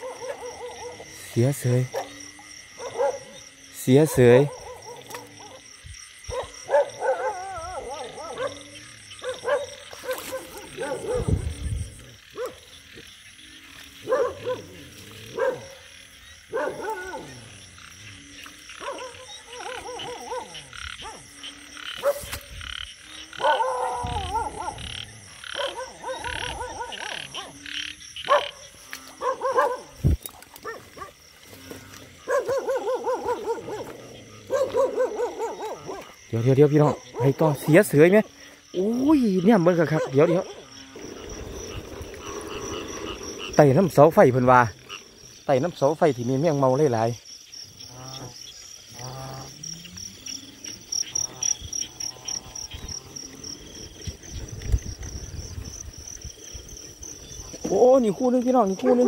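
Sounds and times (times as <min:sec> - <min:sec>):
frogs croaking: 0:00.0 - 0:59.0
insects trilling: 0:00.0 - 0:59.0.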